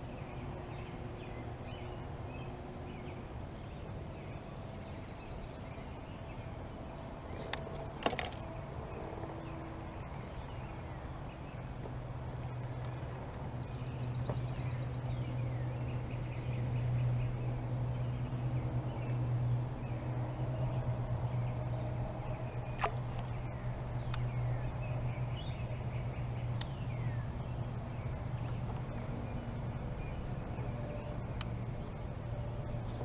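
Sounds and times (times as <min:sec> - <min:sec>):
birds singing and chirping: 0:00.0 - 0:33.0.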